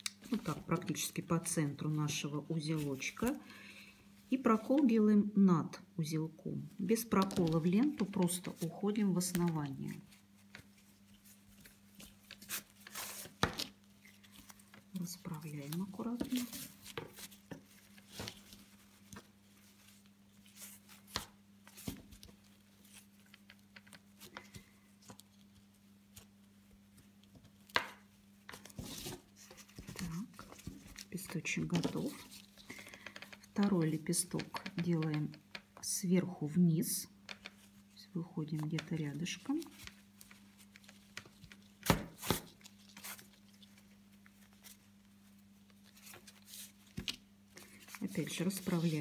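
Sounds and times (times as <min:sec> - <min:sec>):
ribbon rustling on canvas: 0:00.0 - 0:03.4, 0:06.8 - 0:35.2, 0:37.4 - 0:49.0
faint steady hum: 0:00.0 - 0:49.0.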